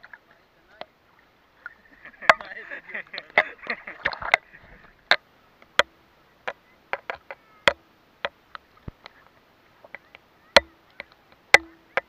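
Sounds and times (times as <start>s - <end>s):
water slapping against camera: 0.0s - 12.0s.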